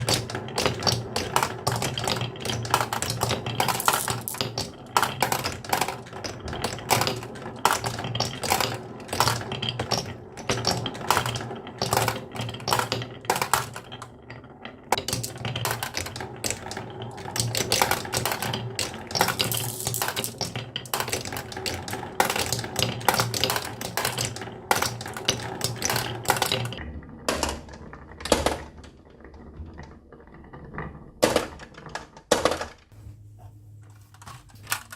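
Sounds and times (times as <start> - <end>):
marbles clattering down wooden track: 0.0 - 32.9, 34.1 - 34.9.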